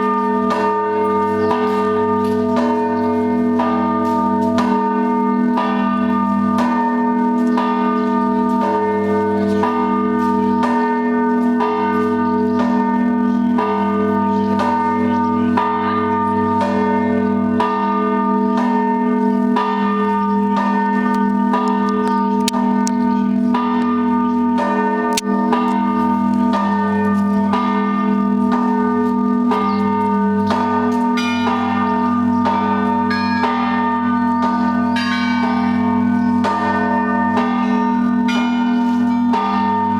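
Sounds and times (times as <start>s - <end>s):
high bright bells: 0.0s - 39.9s
low hum of large bells: 0.0s - 39.9s.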